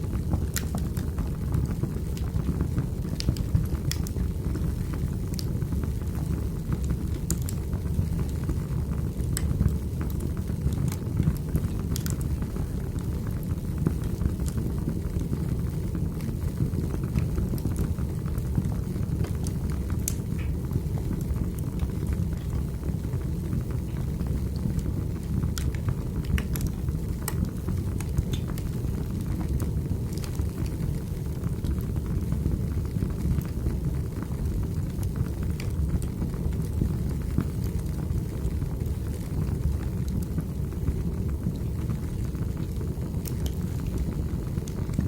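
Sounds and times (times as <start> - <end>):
burning logs popping: 0.0 - 45.0
fire rumbling in fireplace: 0.0 - 45.0.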